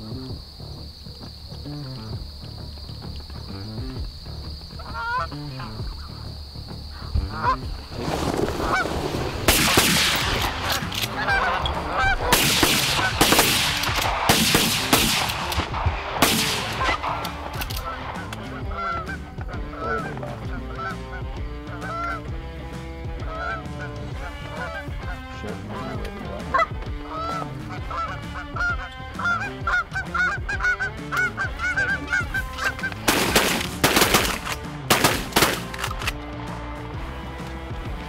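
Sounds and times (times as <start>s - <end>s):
geese honking: 0.5s - 38.0s.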